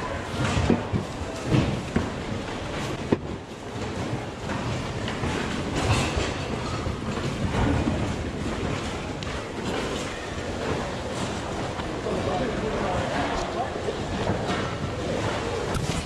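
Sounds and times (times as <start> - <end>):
items knocking and clattering: 0.0 - 12.1, 12.7 - 16.0.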